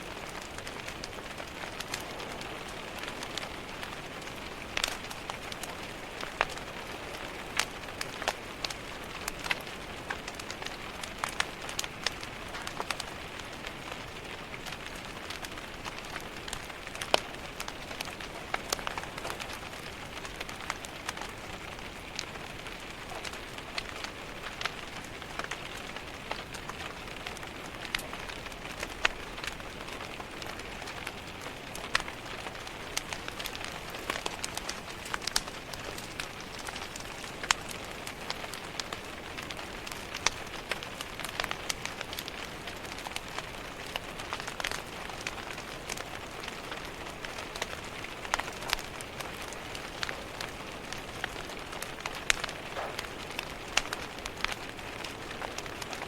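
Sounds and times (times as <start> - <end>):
rain tapping on window glass: 0.0 - 56.0
wood fire crackling: 0.0 - 56.0.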